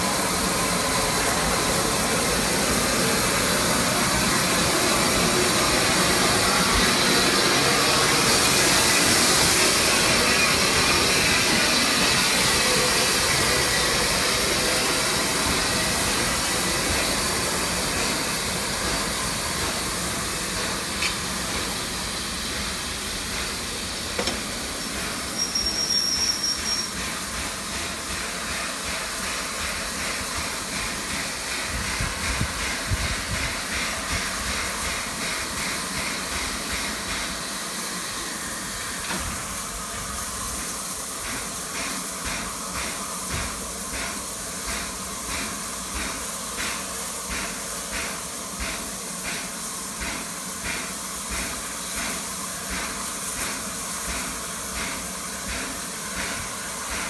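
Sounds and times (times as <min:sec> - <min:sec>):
steam locomotive hissing steam: 0:00.0 - 0:57.0.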